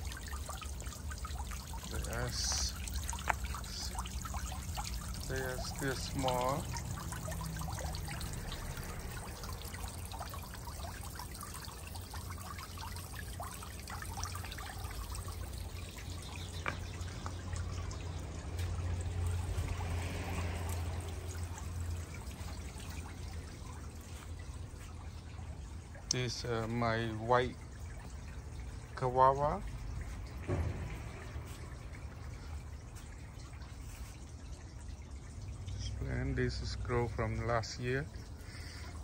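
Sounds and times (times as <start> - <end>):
fountain water splashing: 0.0 - 39.0.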